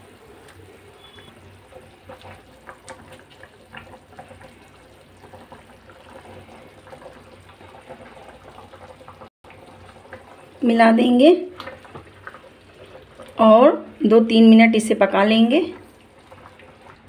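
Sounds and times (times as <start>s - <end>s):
gravy bubbling at a simmer: 0.0s - 14.6s, 15.2s - 17.0s.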